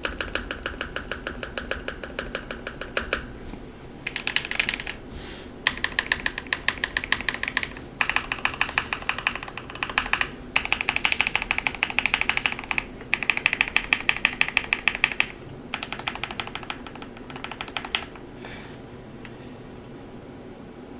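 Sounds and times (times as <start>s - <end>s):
fast mechanical keyboard typing: 0.0s - 3.4s, 4.0s - 5.0s, 5.6s - 18.3s.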